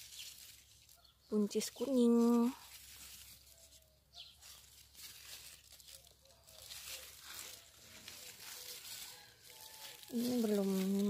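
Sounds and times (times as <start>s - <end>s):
leaves rustling and crinkling: 0.0s - 11.0s.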